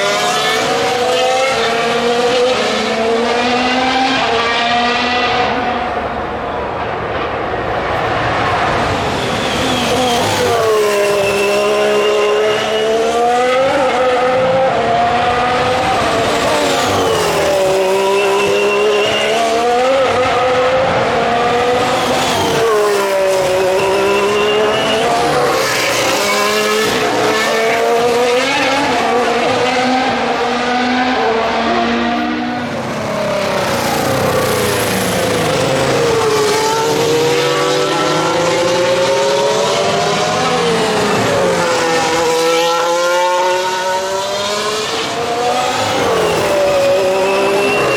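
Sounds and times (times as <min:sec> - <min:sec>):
racing cars passing: 0:00.0 - 0:47.9.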